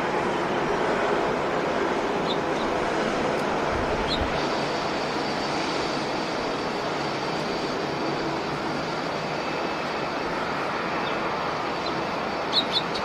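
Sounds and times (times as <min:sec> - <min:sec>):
jet engine rush: 0:00.0 - 0:13.0
wind: 0:00.0 - 0:13.0.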